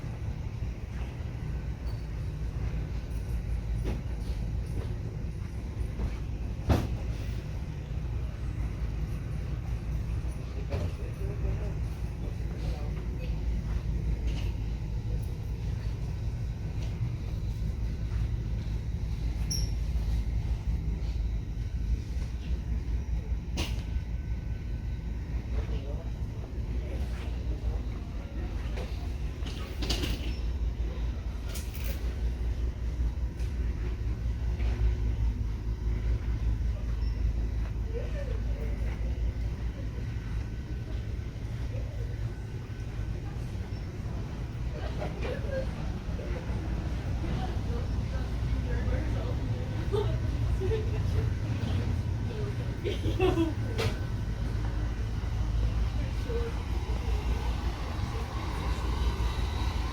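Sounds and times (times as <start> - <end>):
faint indistinct voices: 0.0 - 59.9
steady low rumble: 0.0 - 59.9.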